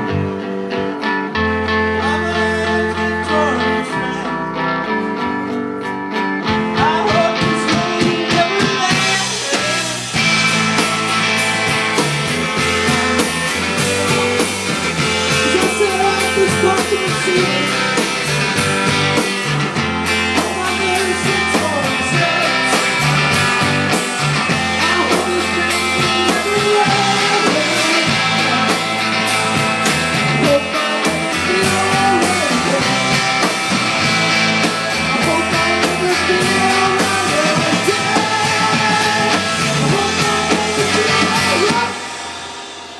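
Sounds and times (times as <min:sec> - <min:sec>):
guitar: 0:00.0 - 0:42.9
person singing: 0:01.7 - 0:05.2, 0:06.4 - 0:10.5, 0:12.6 - 0:19.3, 0:20.0 - 0:33.8, 0:34.6 - 0:42.1
drum beat: 0:07.1 - 0:42.9.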